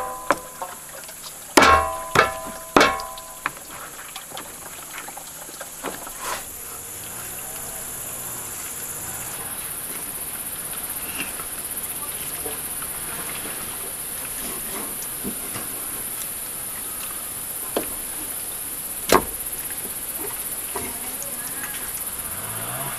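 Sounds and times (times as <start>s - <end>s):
high-pitched insect chorus: 0.0s - 22.9s.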